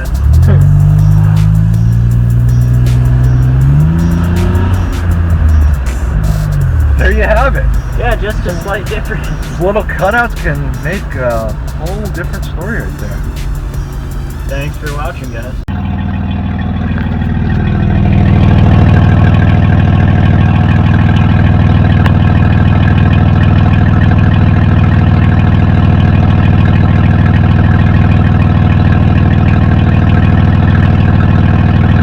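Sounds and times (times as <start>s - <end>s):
car engine idling through exhaust: 0.0s - 32.0s.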